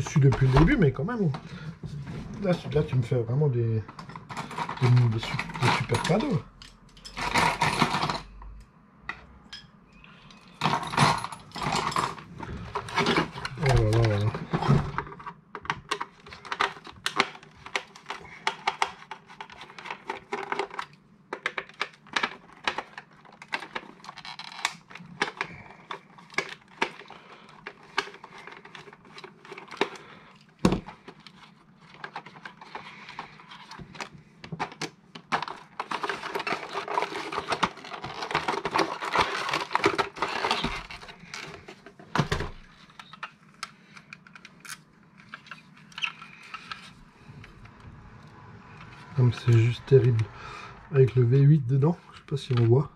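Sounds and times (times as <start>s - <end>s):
plastic and paper crinkling: 0.0s - 6.4s, 11.6s - 47.6s.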